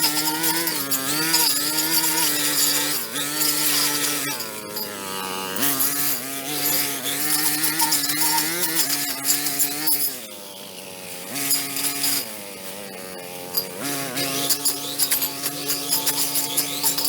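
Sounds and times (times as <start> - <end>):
handheld power tool motor: 0.0 - 17.0.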